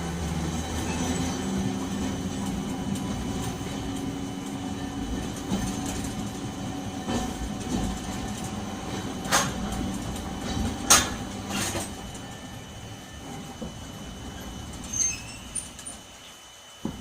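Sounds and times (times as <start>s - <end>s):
streetcar wheels and motor rumbling: 0.0s - 17.0s.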